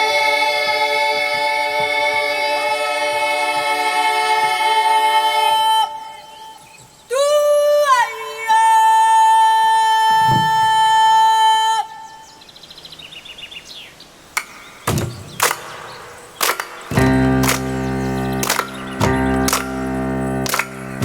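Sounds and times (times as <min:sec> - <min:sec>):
children's choir singing: 0:00.0 - 0:11.9, 0:15.4 - 0:21.0.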